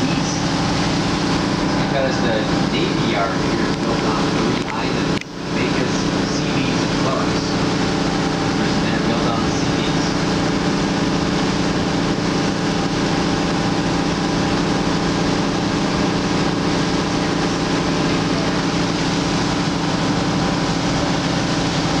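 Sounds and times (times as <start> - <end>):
boat engine drone: 0.0 - 22.0
rush of boat wake: 0.0 - 22.0.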